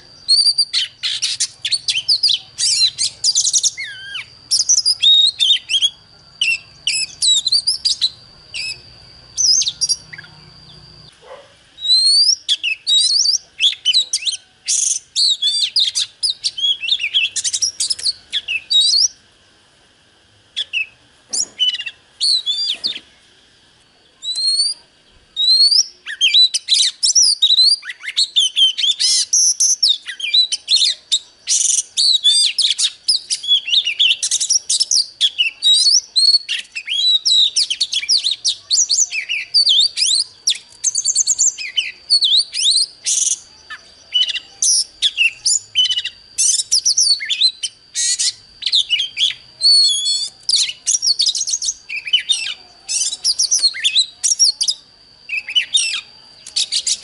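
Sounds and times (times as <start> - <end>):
bird singing whistles and chirps: 0.0 - 19.2, 20.5 - 23.3, 24.0 - 57.0.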